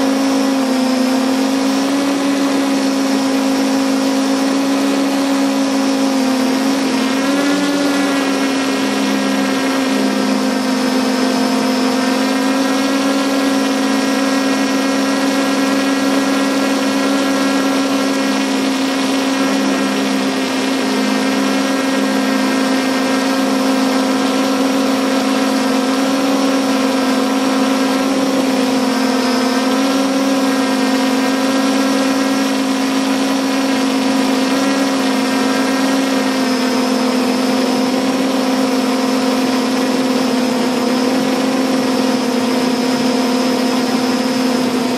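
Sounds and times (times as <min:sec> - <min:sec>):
drone propellers humming: 0:00.0 - 0:44.9.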